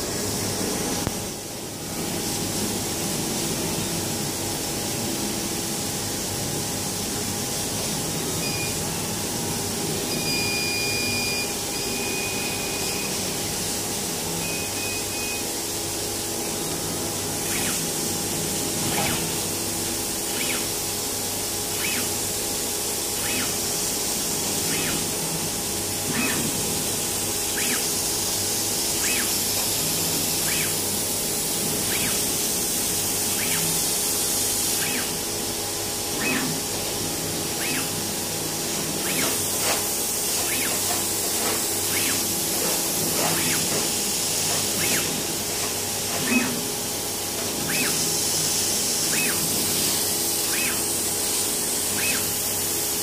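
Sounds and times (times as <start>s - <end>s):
faint machine hum: 0.0s - 53.0s.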